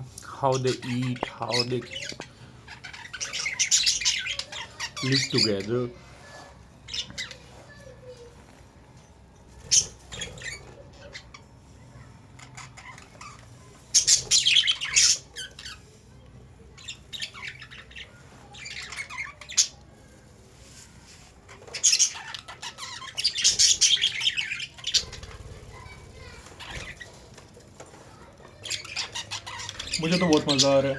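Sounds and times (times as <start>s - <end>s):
parrots squawking and chattering: 0.0s - 30.9s.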